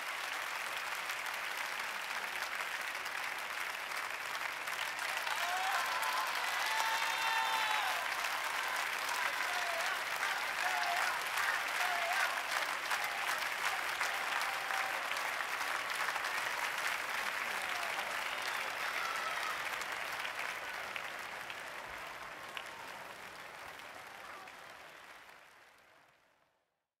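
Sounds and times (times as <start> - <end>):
audience applauding: 0.0 - 26.4.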